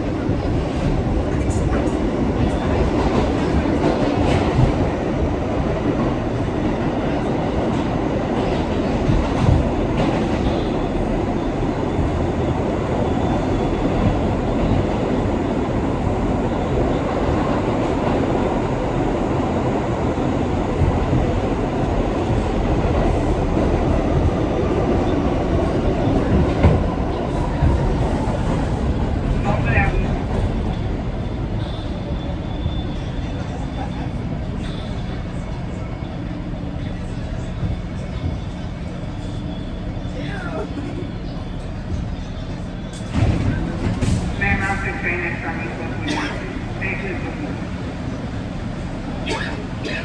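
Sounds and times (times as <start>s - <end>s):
subway train wheels rumbling: 0.0s - 50.0s.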